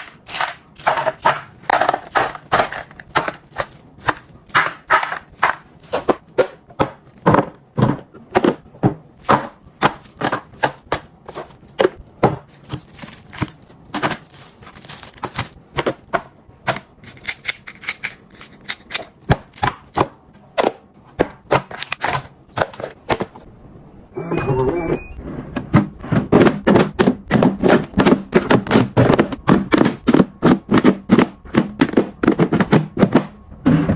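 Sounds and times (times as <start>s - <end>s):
kitchen items knocking and clicking: 0.0s - 23.5s, 25.5s - 33.9s.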